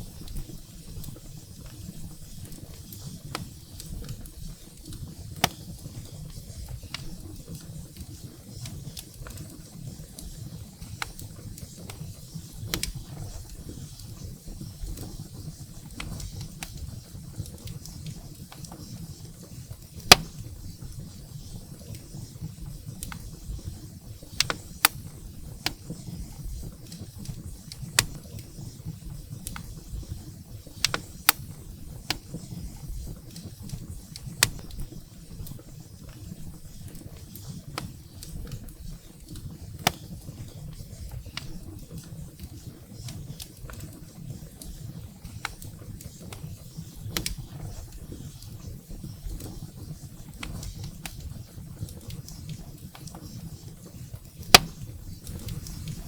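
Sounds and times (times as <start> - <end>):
firewood crackling and popping: 0.0 - 56.0
low rumble of flames: 0.0 - 56.0.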